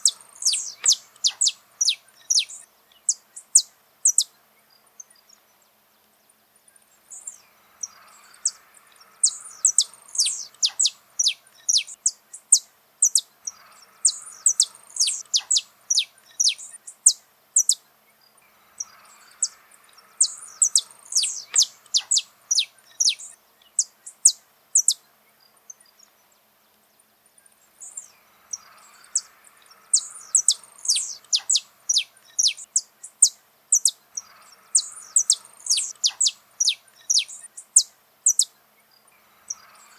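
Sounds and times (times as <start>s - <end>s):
finch singing sharp chirps: 0.0s - 4.3s, 7.1s - 17.8s, 18.8s - 25.0s, 27.8s - 38.6s.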